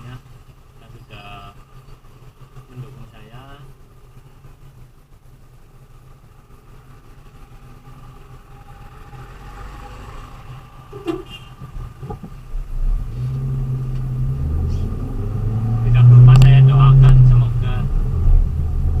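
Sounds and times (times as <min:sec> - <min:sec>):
road noise while driving: 0:00.0 - 0:19.0
vehicle engine hum: 0:00.0 - 0:19.0.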